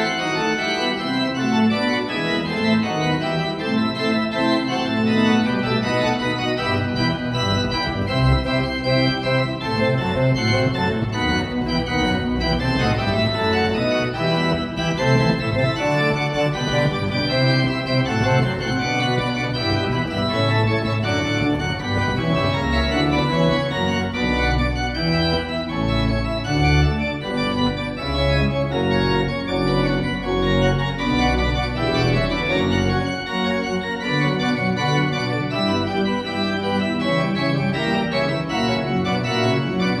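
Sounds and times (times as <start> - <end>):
deep organ pedal bass notes: 0.0 - 40.0
pipe organ playing: 0.0 - 40.0.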